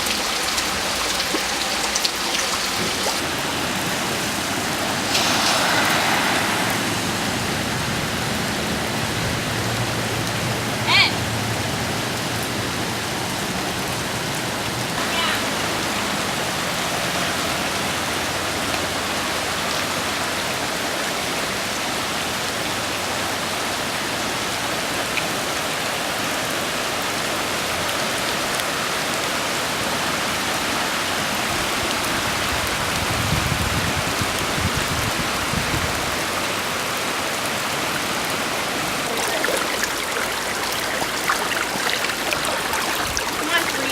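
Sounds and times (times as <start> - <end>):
rushing floodwater: 0.0 - 43.9.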